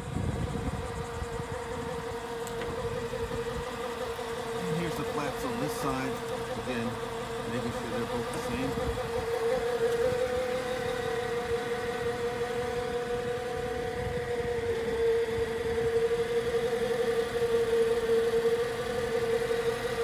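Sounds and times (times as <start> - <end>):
engine idling: 0.8 - 20.0.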